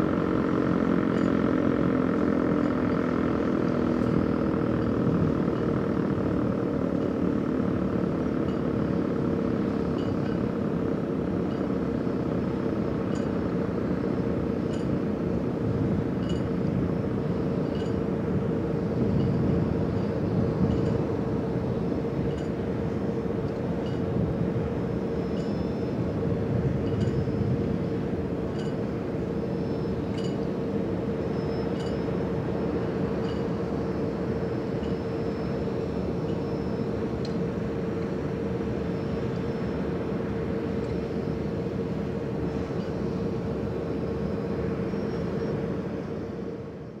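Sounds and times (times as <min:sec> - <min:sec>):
drone motors humming: 0:00.0 - 0:47.0.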